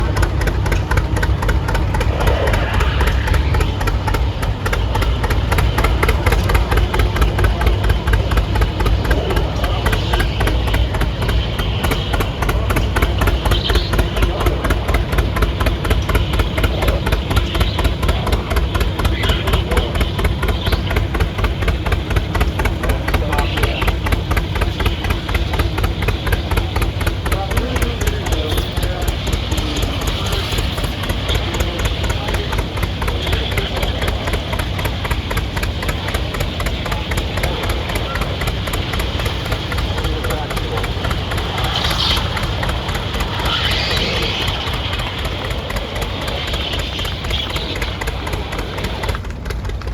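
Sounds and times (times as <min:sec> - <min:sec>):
exhaust popping: 0:00.0 - 0:49.9
tractor engine running under load: 0:00.0 - 0:49.9.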